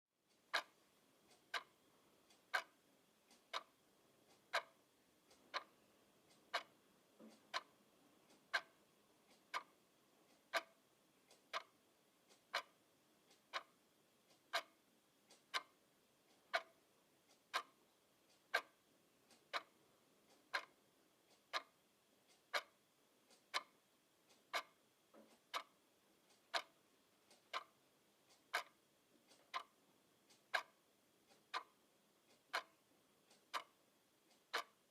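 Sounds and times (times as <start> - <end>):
wall clock ticking: 0.2 - 34.9.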